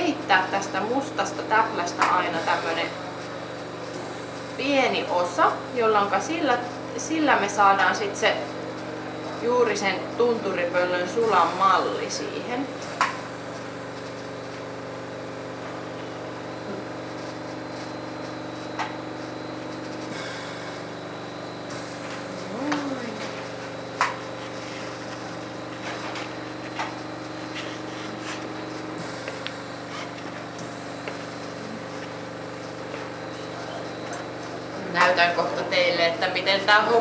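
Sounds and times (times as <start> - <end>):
ventilation hum: 0.0 - 37.0.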